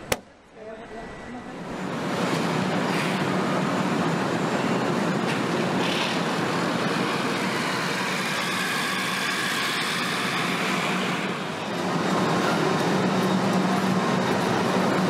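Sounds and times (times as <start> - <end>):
machinery and ventilation hum: 0.0 - 15.0.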